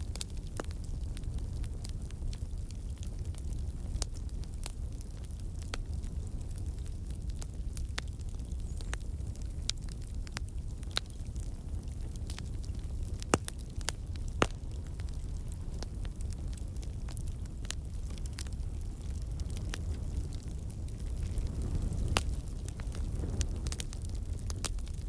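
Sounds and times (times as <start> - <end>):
fire crackling and popping: 0.0 - 25.0
fire low rumble: 0.0 - 25.0.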